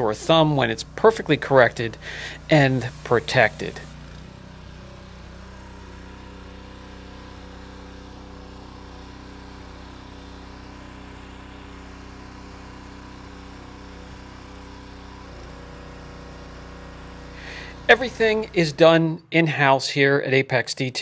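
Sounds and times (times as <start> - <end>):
small petrol engine running: 0.0 - 18.8.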